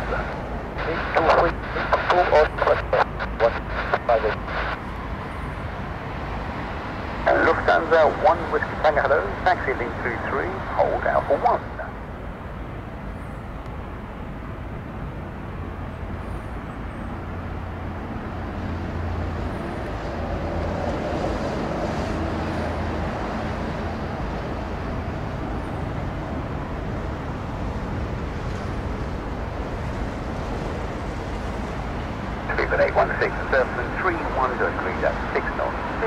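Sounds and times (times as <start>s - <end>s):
distant jet engines rumbling: 0.0s - 36.0s.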